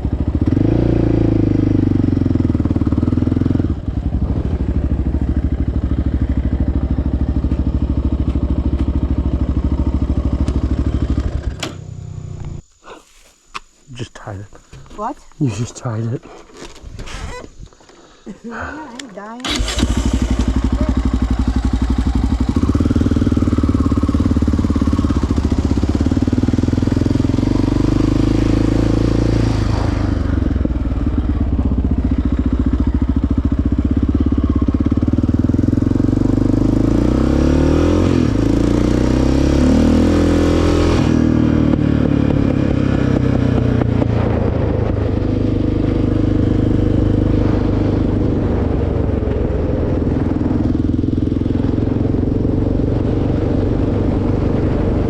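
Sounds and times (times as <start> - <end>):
atv engine running: 0.0 - 12.7, 17.7 - 55.0.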